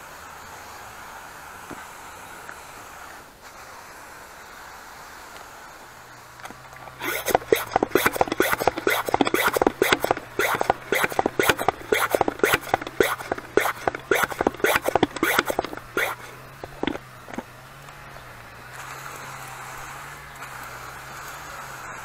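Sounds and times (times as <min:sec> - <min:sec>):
pressure sprayer pump strokes: 0:00.1 - 0:22.0.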